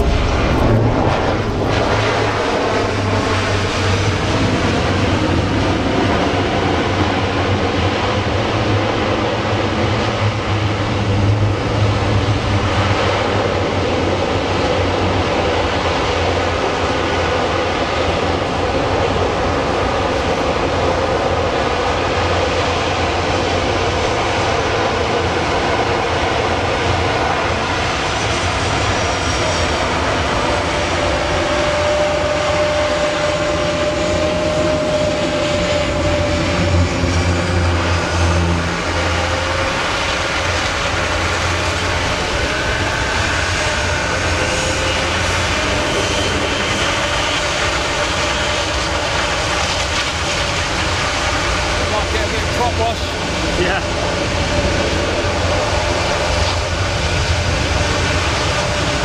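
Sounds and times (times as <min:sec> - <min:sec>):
propeller and engine drone: 0:00.0 - 0:59.0.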